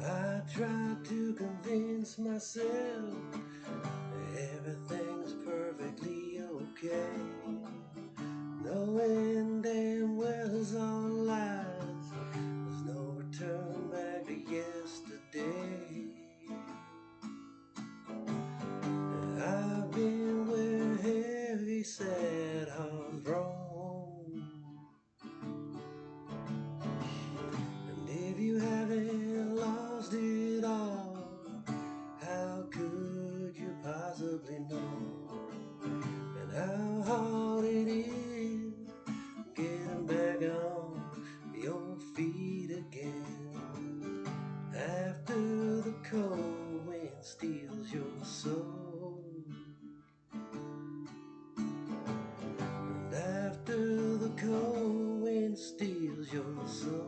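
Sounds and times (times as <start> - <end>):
person singing: 0.0 - 16.8, 19.1 - 24.9, 27.0 - 43.9, 44.7 - 49.8, 52.9 - 57.0
acoustic guitar strumming: 0.0 - 57.0.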